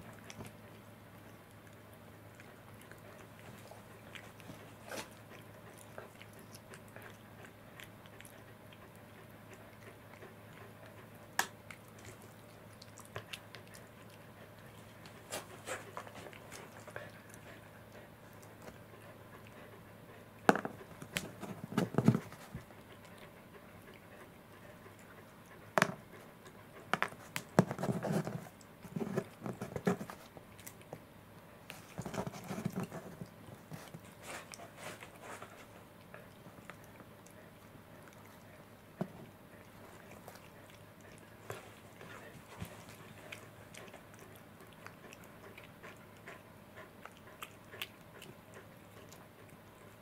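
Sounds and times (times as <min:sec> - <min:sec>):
cat chewing and licking: 0:00.0 - 0:50.0.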